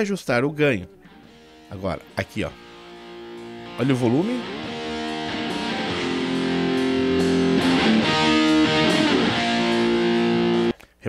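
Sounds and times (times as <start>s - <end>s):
electric guitar sustained chords: 0.9s - 10.7s.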